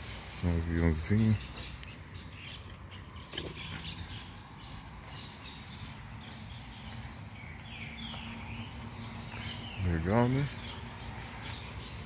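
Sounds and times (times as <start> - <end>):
birds chirping: 0.0 - 12.0
low steady hum: 0.0 - 12.0
outdoor background noise: 0.0 - 12.0.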